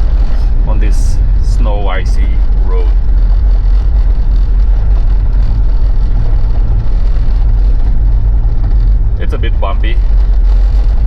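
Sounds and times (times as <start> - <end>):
engine and tyres droning: 0.0 - 11.0.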